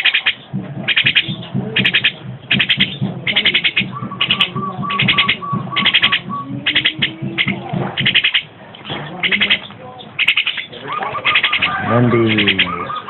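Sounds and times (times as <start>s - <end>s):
bird rasping calls: 0.0s - 13.0s.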